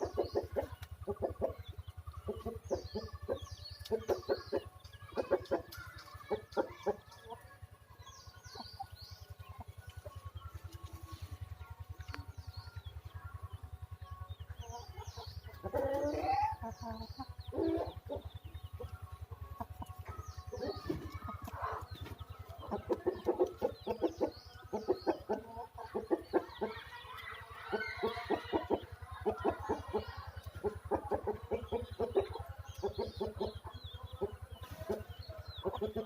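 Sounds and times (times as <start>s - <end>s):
chickens clucking: 0.0s - 36.0s
steady low hum: 0.0s - 36.0s.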